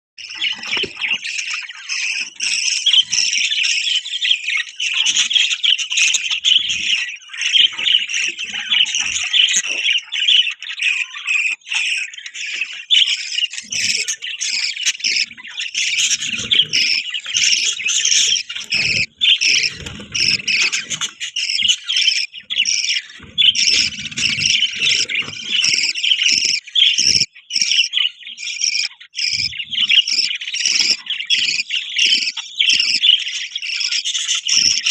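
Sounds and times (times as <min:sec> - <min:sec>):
budgerigars chirping: 0:00.2 - 0:34.9.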